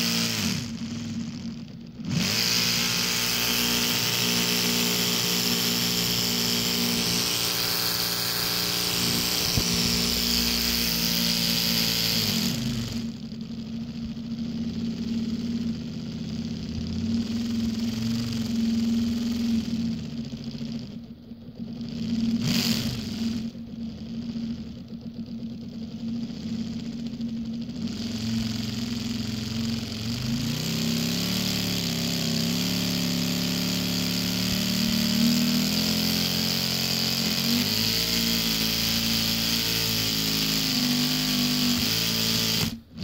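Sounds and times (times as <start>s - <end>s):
toy engine model whirring: 0.0s - 43.0s.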